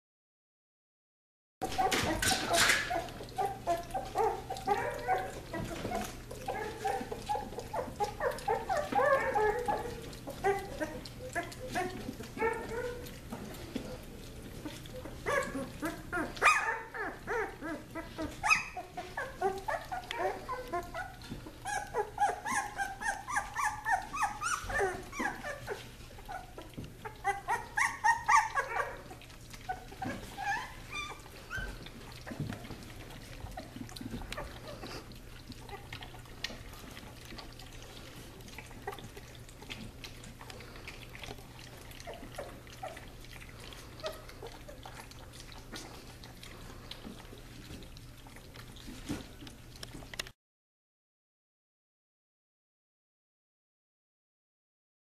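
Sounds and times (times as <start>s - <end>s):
puppies whimpering and squeaking: 1.6s - 50.2s
puppies lapping milk: 1.6s - 50.4s.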